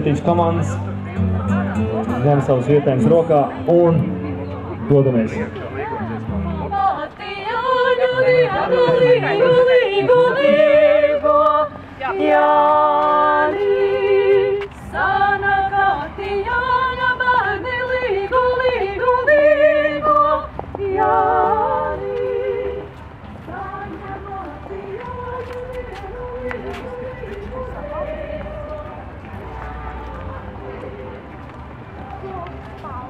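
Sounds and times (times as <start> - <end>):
women singing folk song unaccompanied: 5.8 - 33.0.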